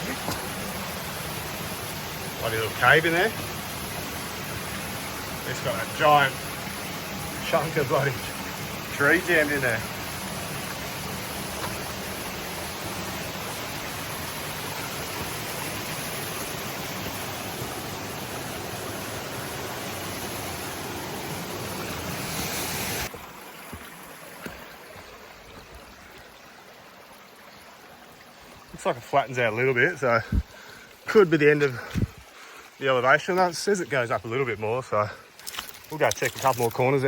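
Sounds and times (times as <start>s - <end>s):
creek water rushing over rocks: 0.0s - 37.0s.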